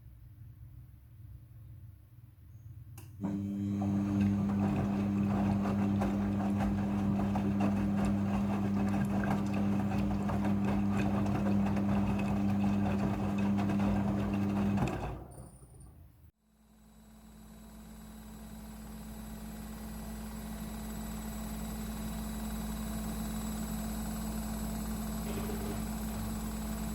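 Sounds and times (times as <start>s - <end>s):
washing machine running: 3.2s - 16.2s, 17.4s - 26.9s.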